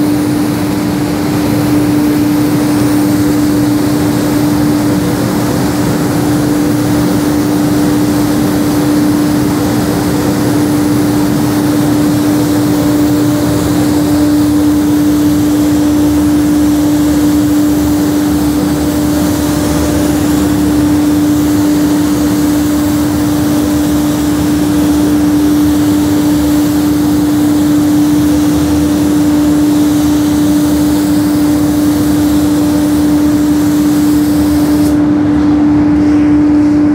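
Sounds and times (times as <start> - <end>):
spray gun hissing: 0.0 - 35.1
machinery droning hum: 0.0 - 36.9.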